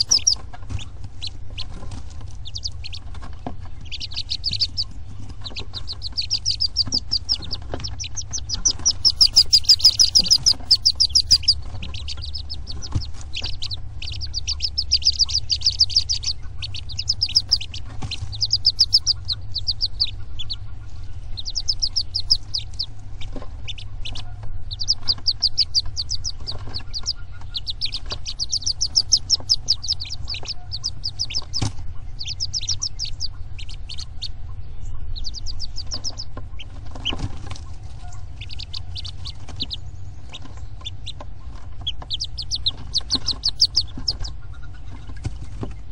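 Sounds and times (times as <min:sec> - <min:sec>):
ducklings peeping: 0:00.0 - 0:45.9
low hum: 0:00.0 - 0:45.9.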